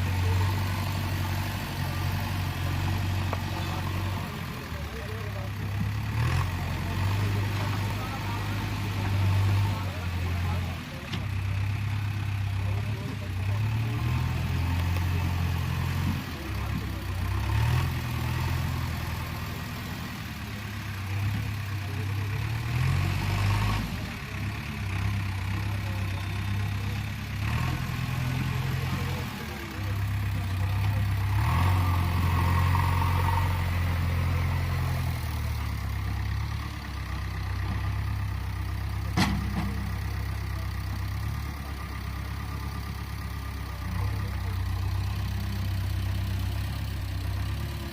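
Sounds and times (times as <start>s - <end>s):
diesel engine revving up and down: 0.0s - 47.9s.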